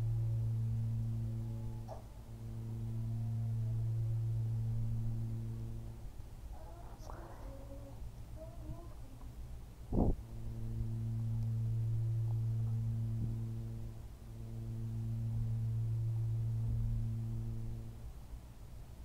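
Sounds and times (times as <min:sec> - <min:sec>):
man humming low note: 0:00.0 - 0:09.2, 0:09.9 - 0:18.1.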